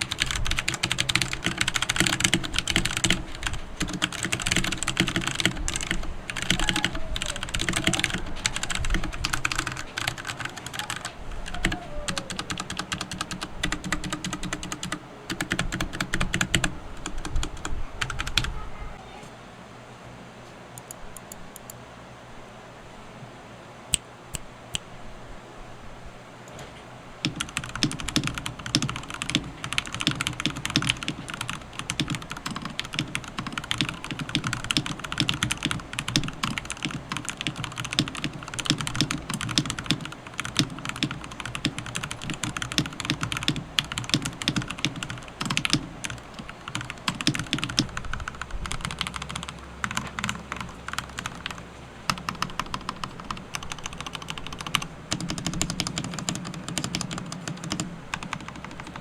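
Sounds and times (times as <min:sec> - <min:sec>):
mechanical keyboard typing clicks: 0:00.0 - 0:18.5, 0:27.2 - 0:59.0.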